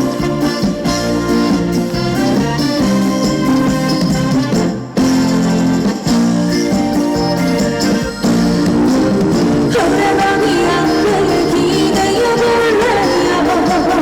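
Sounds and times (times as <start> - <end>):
trot song through loudspeakers: 0.0 - 14.0.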